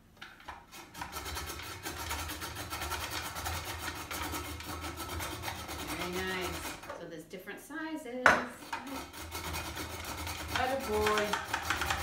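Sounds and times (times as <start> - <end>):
drum grater clicking and grinding: 0.6 - 6.9, 8.6 - 12.0.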